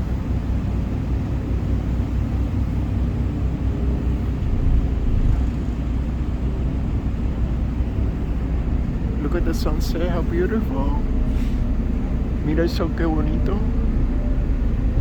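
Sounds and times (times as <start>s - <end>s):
ferry engines rumbling: 0.0s - 15.0s.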